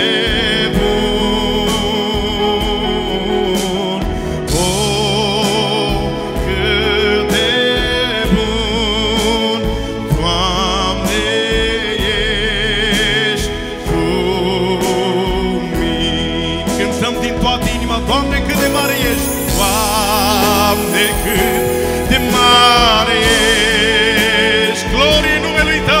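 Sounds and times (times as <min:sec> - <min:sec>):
instrumental accompaniment: 0:00.0 - 0:26.0
man singing with vibrato: 0:00.0 - 0:26.0.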